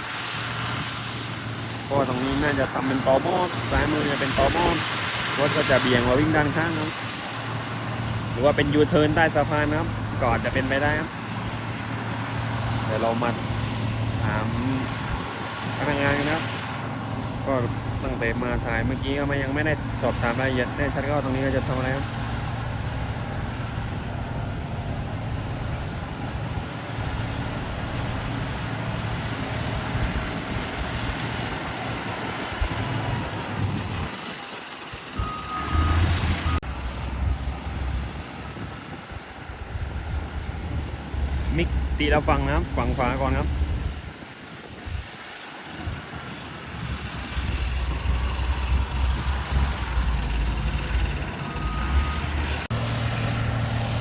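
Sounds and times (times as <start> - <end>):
heavy diesel engine rumbling: 0.0 - 44.2, 44.8 - 54.0.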